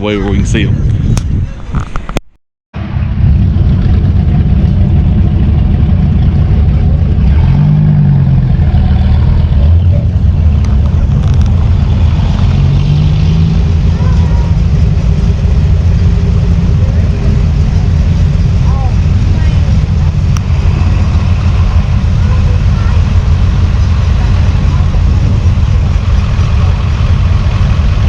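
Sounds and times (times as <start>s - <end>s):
engine running and revving: 2.8s - 28.0s.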